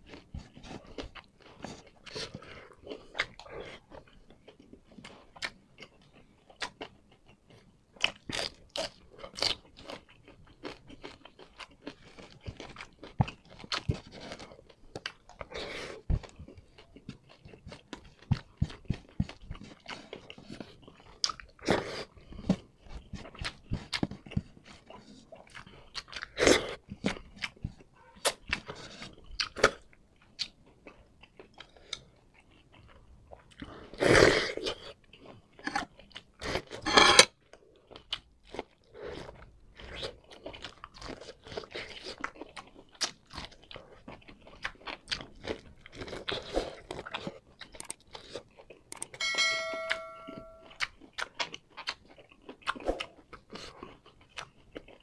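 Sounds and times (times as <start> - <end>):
chewing with wet clicks: 0.0 - 49.2, 50.6 - 55.0.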